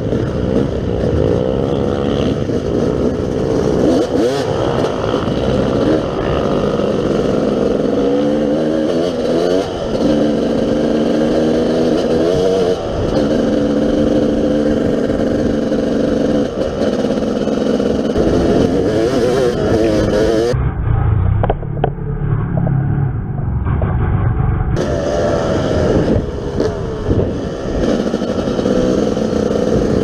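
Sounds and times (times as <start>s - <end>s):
two-stroke dirt bike engine: 0.0s - 30.0s.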